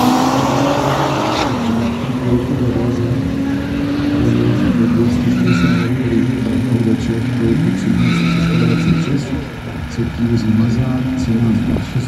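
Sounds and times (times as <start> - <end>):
racing car engines accelerating: 0.0 - 12.0.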